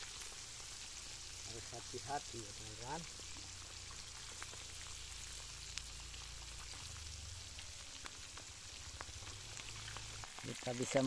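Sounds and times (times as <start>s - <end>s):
small pops and crackles: 0.0s - 1.3s, 2.8s - 11.0s
fish frying in hot oil: 0.0s - 11.0s.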